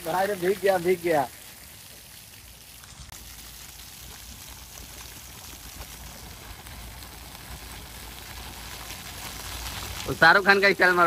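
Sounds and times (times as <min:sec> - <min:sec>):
fountain jets spraying on stone: 0:00.0 - 0:11.0.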